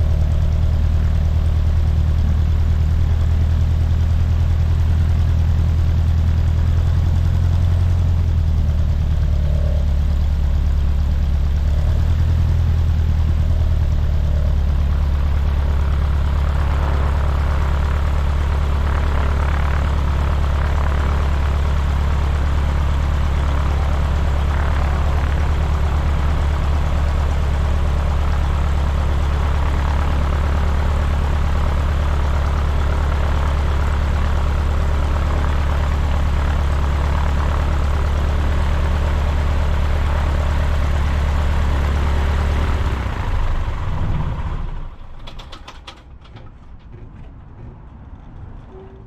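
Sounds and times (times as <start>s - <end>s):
aircraft engine idling and stopping: 0.0s - 49.0s.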